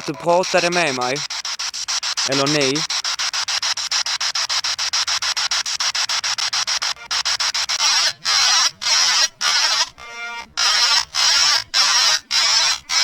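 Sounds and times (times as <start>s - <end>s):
radio static pulses: 0.0s - 13.0s.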